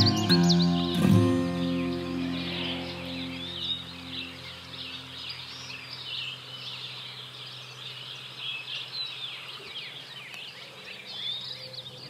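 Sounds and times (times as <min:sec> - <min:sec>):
faint outdoor hiss: 0:00.0 - 0:12.0
small birds chirping: 0:00.0 - 0:12.0.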